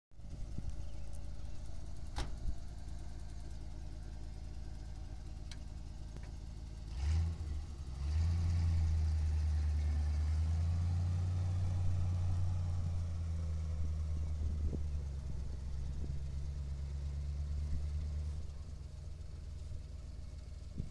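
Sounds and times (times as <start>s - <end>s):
truck engine starting and running: 0.2s - 20.9s.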